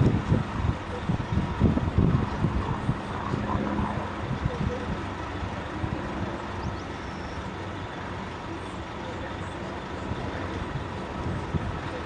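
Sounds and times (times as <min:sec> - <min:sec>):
distant jet engines rumbling: 0:00.0 - 0:12.0.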